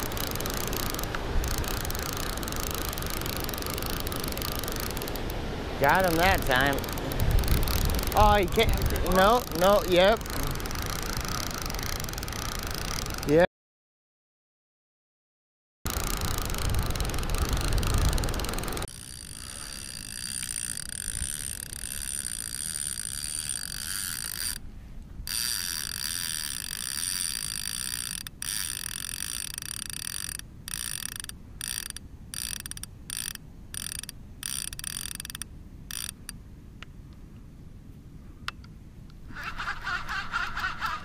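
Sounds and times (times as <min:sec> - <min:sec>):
fishing reel whirring: 0:00.0 - 0:13.4, 0:15.9 - 0:24.6, 0:25.2 - 0:36.4.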